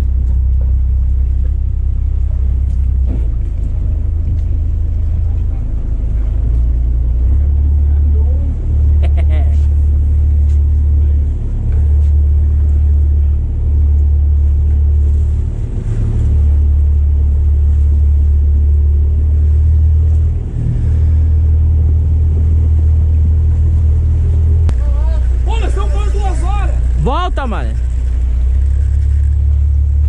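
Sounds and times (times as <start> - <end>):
motorboat engine rumbling: 0.0 - 30.0.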